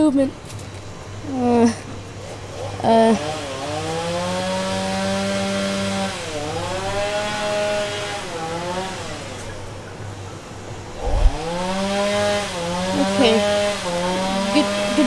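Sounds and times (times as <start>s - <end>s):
small engine running: 2.4s - 15.0s.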